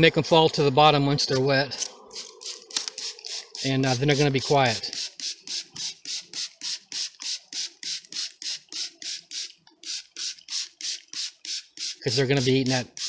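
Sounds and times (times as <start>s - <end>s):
spray bottle squirting: 1.3s - 13.0s.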